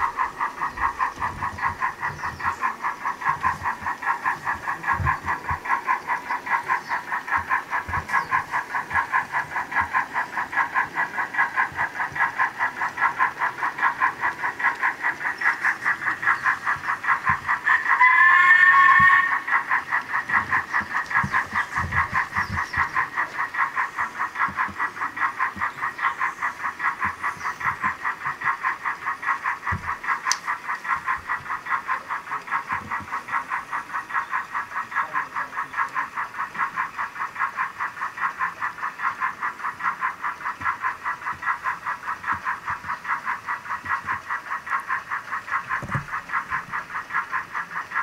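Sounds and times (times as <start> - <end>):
model steam locomotive chuffing: 0.0 - 48.0.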